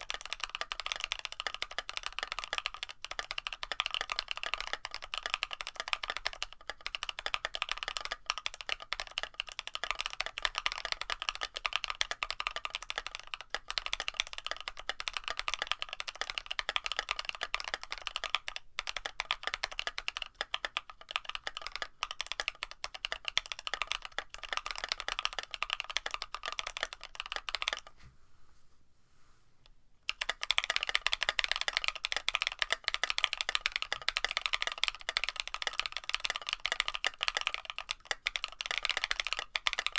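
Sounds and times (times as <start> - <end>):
fast mechanical keyboard typing: 0.0 - 27.9, 30.1 - 39.9.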